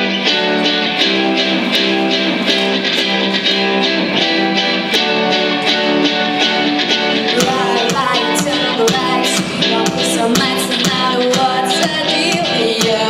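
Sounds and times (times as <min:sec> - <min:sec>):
steady beat: 0:00.0 - 0:13.0
strummed guitar chords: 0:00.0 - 0:13.0.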